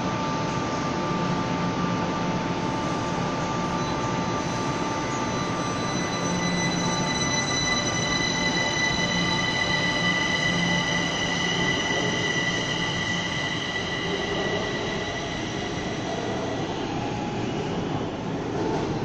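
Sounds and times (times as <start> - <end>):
train high whine: 0.0 - 19.0.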